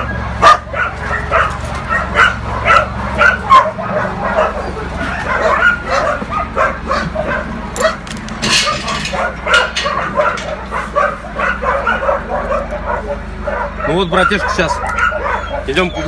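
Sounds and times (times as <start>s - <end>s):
dogs barking and yipping: 0.0s - 16.0s.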